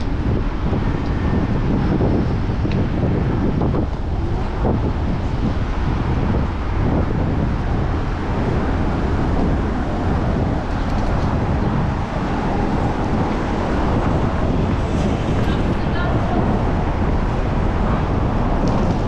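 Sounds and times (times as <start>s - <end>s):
passing car traffic: 0.0s - 19.0s
wind noise on microphone: 0.0s - 19.0s.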